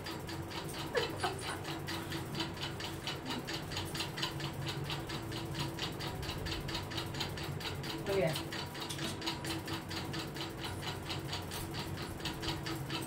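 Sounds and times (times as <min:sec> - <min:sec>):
rapid clicking: 0:00.0 - 0:13.0.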